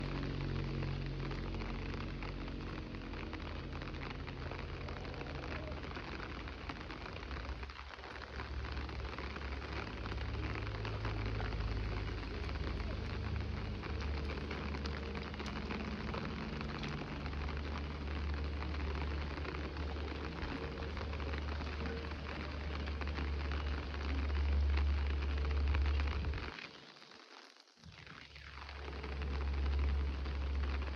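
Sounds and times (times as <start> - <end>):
low rumble: 0.0 - 26.5, 28.6 - 30.9
rain falling: 0.0 - 30.9.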